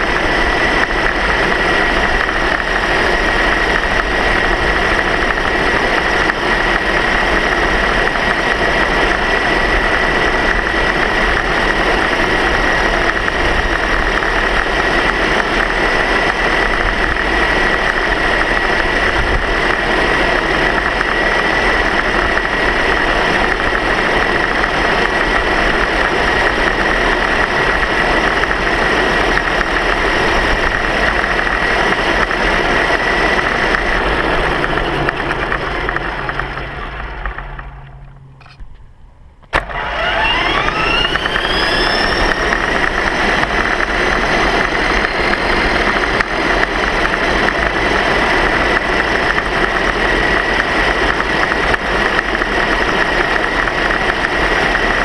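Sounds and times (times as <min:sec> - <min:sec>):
high motor whine: 0:00.0 - 0:55.0
road and wind noise: 0:00.0 - 0:55.0.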